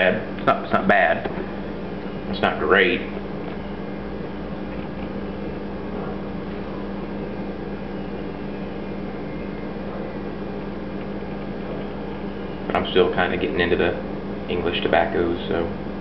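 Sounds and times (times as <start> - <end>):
appliance humming: 0.0 - 16.0.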